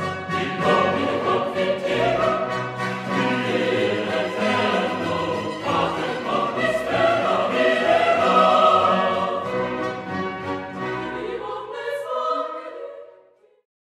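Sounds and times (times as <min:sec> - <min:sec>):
choir with orchestra: 0:00.0 - 0:13.6.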